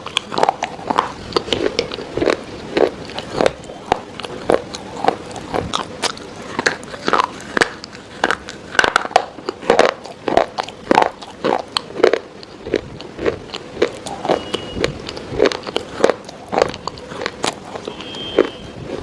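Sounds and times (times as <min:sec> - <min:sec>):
crunchy food chewing: 0:00.0 - 0:19.0.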